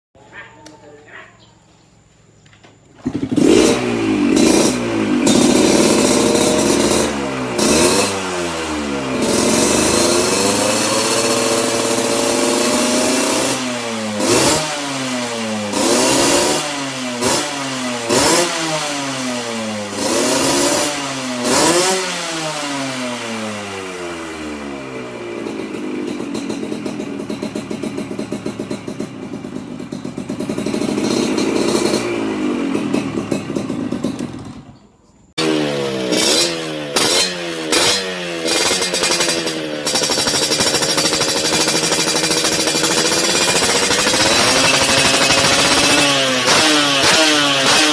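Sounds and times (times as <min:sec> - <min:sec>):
two-stroke motorcycle engine revving: 0:02.9 - 0:47.9.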